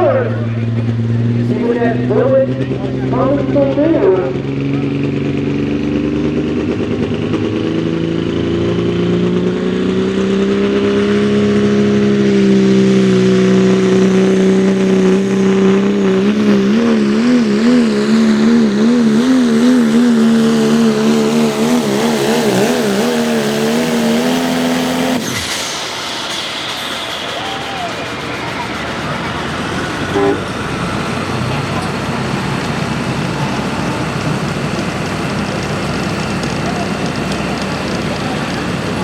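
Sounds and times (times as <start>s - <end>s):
diesel truck engine at full throttle: 0.0s - 39.0s.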